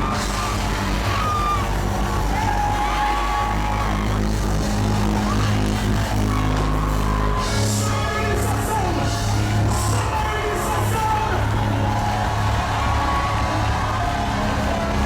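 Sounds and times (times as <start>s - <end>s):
gospel worship band music: 0.0s - 15.0s.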